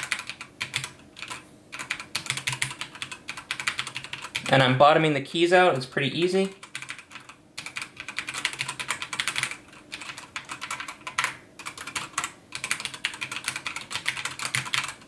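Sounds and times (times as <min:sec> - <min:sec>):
fast keyboard typing: 0:00.0 - 0:04.7, 0:06.4 - 0:15.0.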